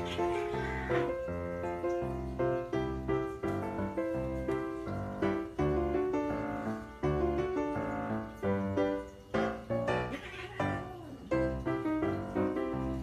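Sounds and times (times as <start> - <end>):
piano-like keyboard melody: 0.0 - 13.0.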